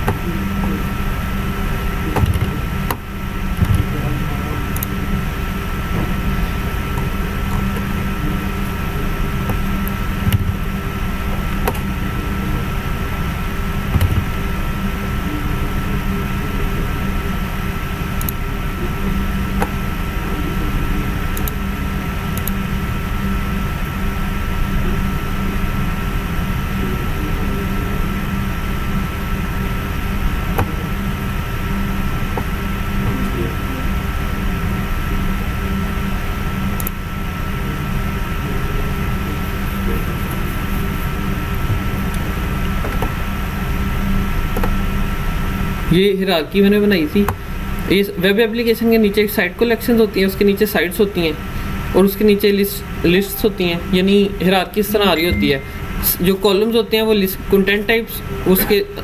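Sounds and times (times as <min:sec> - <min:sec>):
equipment hum and hiss: 0:00.0 - 0:59.0
thin steady whine: 0:00.0 - 0:59.0.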